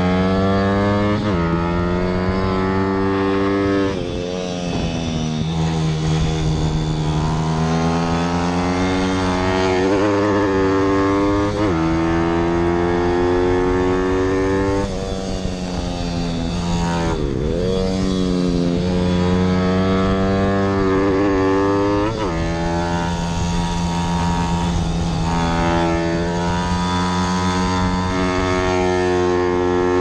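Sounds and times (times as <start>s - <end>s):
motorbike engine revving: 0.0s - 30.0s
wind rushing over microphone: 0.0s - 30.0s.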